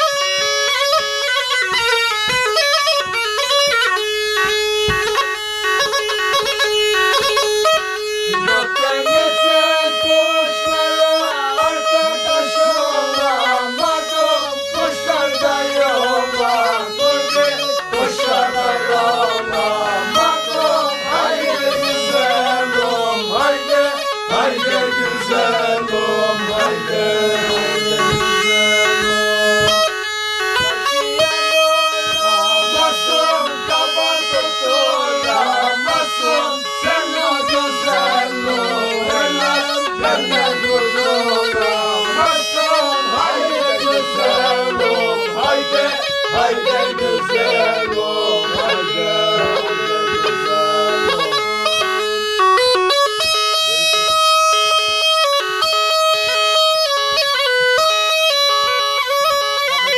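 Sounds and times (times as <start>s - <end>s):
bagpipe playing fast melody: 0.0s - 59.9s.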